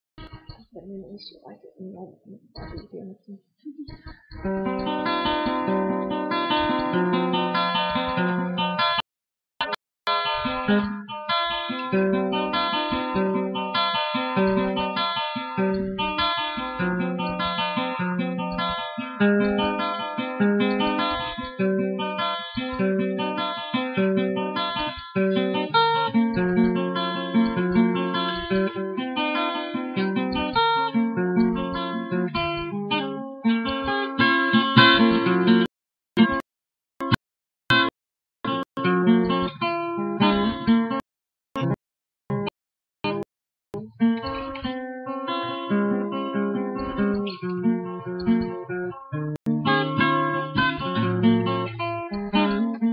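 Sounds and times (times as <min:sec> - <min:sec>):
acoustic guitar picking: 0:04.1 - 0:09.0, 0:09.6 - 0:36.4, 0:38.5 - 0:41.0, 0:43.8 - 0:52.9.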